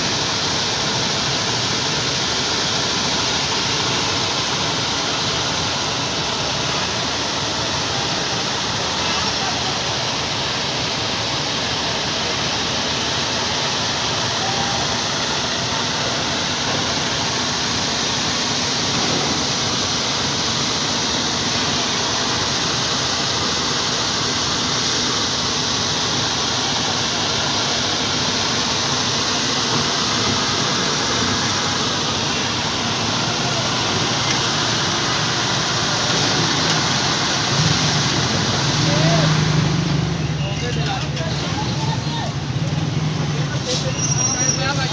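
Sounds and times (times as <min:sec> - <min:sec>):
crawler crane running: 0:00.0 - 0:44.9.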